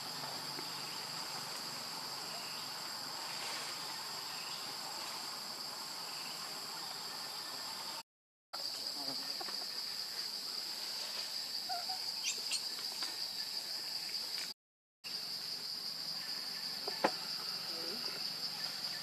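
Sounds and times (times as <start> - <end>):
faint insect chirps: 0.0 - 8.0, 8.6 - 19.0
insects droning: 0.0 - 8.0, 8.6 - 19.0.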